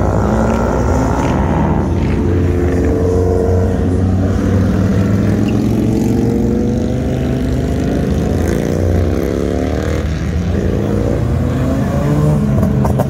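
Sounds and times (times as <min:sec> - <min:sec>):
cars passing close by: 0:00.0 - 0:13.0.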